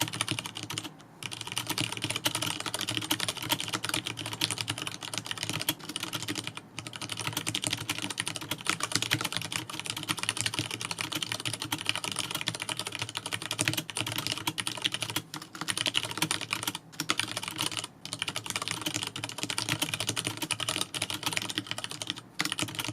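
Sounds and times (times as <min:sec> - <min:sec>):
fast typing on mechanical keyboard: 0:00.0 - 0:22.9.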